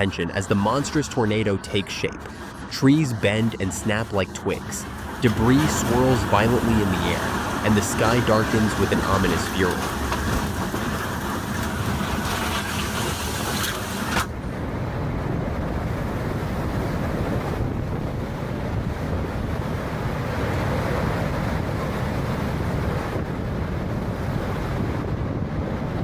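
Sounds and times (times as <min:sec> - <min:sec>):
storm wind buffeting microphone: 0:00.0 - 0:26.0.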